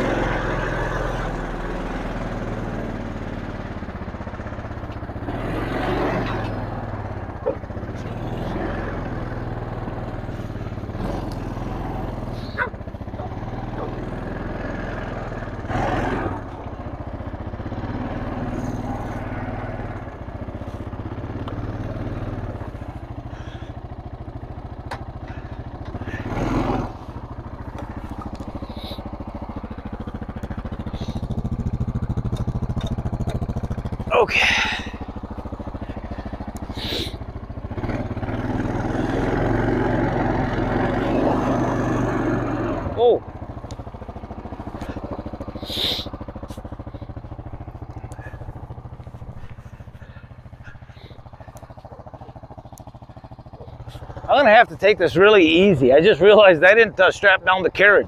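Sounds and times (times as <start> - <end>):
atv engine idling: 0.0 - 58.0.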